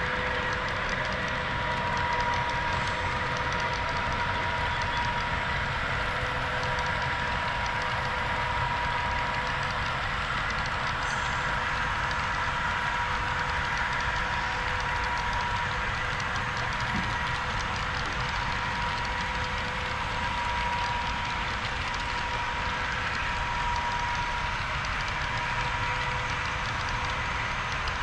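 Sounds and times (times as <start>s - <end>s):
constant whine: 0.0s - 28.0s
model train diesel engine sound: 0.0s - 28.0s.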